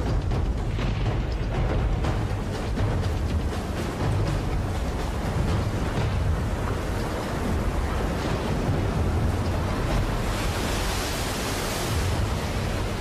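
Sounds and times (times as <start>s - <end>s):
storm waves breaking: 0.0s - 13.0s.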